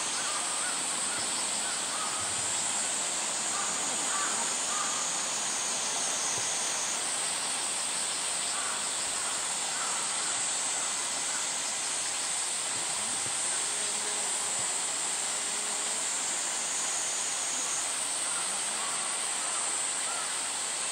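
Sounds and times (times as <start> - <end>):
cicada chorus hiss: 0.0 - 20.9
faint short insect calls: 0.0 - 20.9.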